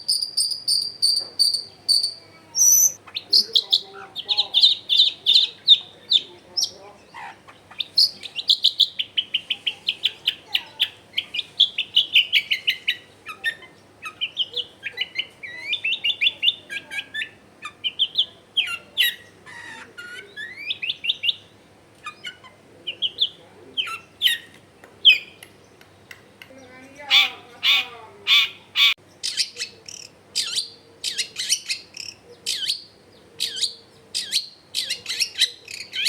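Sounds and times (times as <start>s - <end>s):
bird singing trills: 0.0s - 36.0s.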